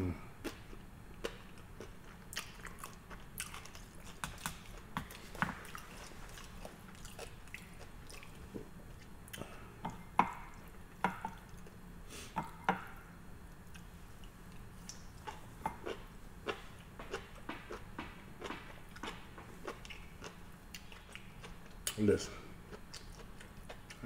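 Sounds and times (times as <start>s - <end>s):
person chewing: 0.4s - 11.8s, 13.6s - 24.0s.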